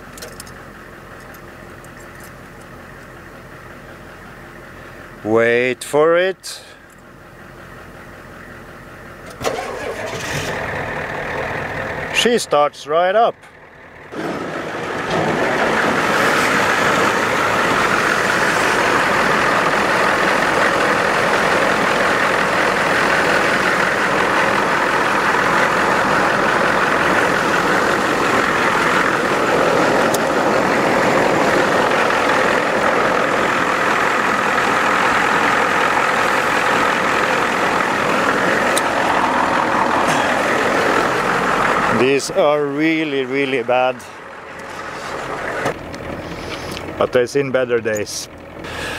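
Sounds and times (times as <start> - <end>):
van engine idling: 0.0 - 48.9.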